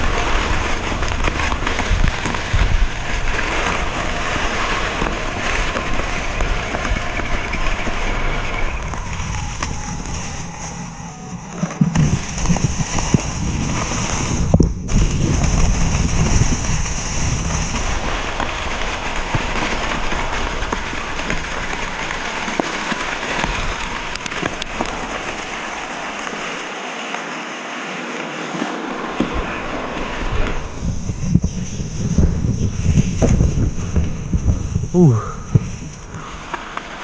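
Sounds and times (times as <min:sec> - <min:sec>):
heavy low rumble: 0:00.0 - 0:22.3, 0:28.9 - 0:36.6
bike knocking and rattling: 0:00.0 - 0:27.2, 0:28.7 - 0:37.0
bike tyres crunching over rocks: 0:00.0 - 0:27.4, 0:28.6 - 0:37.0.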